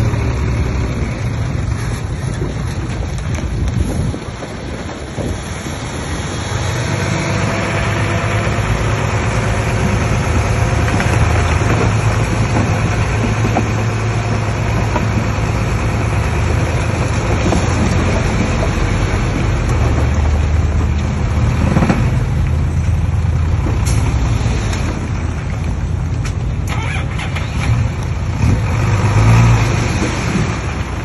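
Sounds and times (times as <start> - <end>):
clatter of working noise: 0.0 - 5.7, 6.8 - 31.0
bulldozer diesel engine running: 0.0 - 31.0.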